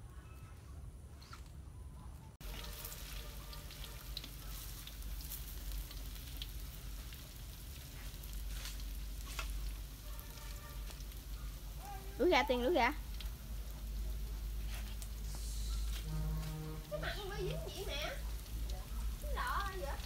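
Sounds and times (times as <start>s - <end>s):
food frying in hot oil: 2.4s - 20.0s.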